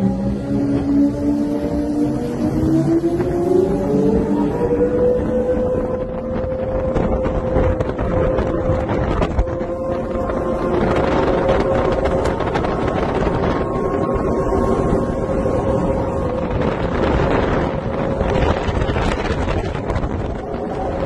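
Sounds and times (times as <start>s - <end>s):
motorboat engine drone: 0.0s - 21.0s
wind rushing over microphone: 0.0s - 21.0s.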